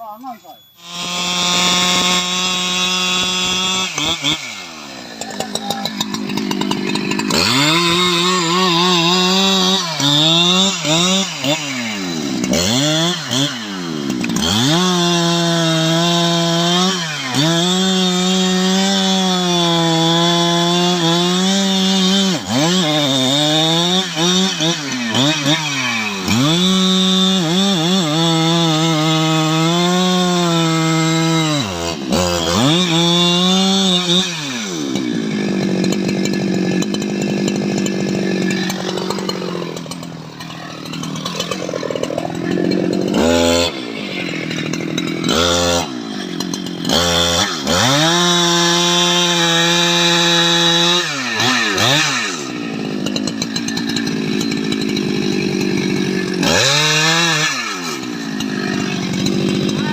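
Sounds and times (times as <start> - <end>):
chainsaw running at high revs: 0.0 - 59.9.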